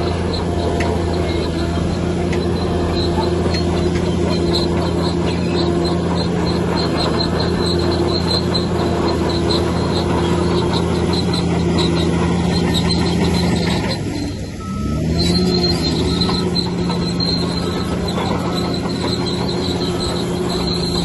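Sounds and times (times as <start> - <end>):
heavy diesel machine running: 0.0 - 21.0
high squeak: 0.0 - 21.0.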